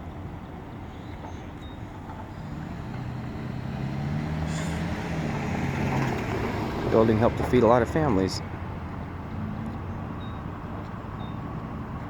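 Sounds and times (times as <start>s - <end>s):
outdoor background noise: 0.0s - 12.0s
vehicle engine hum: 0.0s - 12.0s.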